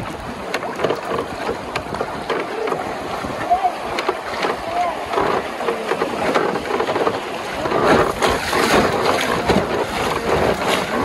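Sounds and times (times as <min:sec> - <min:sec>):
river water rushing around raft: 0:00.0 - 0:11.0
wind buffeting microphone: 0:00.0 - 0:11.0.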